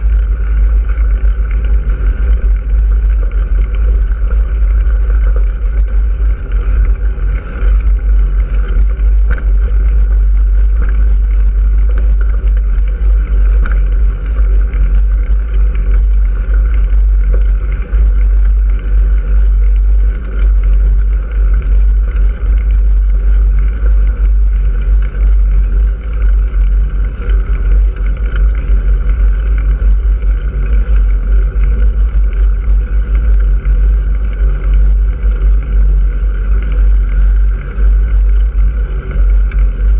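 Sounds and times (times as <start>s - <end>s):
vehicle drone: 0.0s - 39.9s
wind rumble on microphone: 0.0s - 39.9s.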